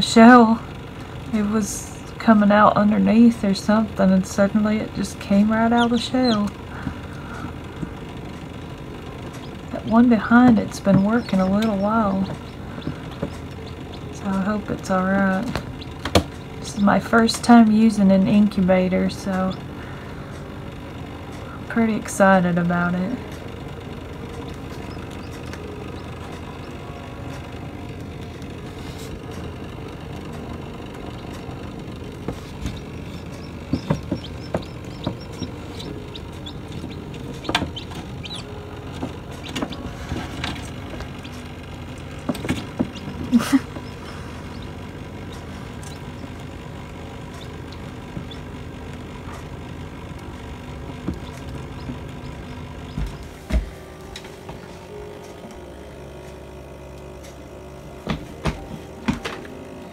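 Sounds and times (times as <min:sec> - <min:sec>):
small computer fan humming: 0:00.0 - 0:59.9.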